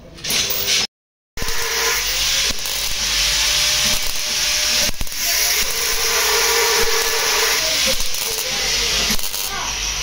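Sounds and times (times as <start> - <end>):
welding arc crackling and hissing: 1.4 - 10.0.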